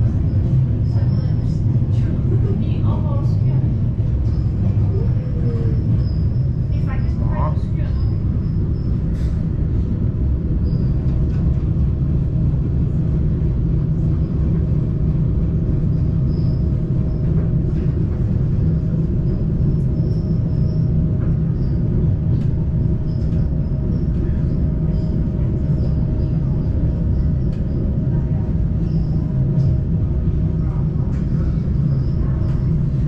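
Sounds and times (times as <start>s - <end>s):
train rumbling from inside carriage: 0.0s - 33.0s.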